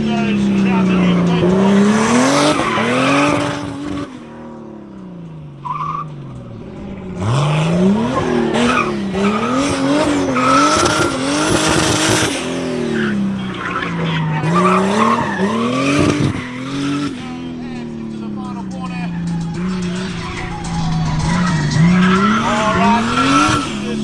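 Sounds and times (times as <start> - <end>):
race car engine revving: 0.0 - 24.0
tyres squealing: 1.0 - 4.1, 5.6 - 24.0.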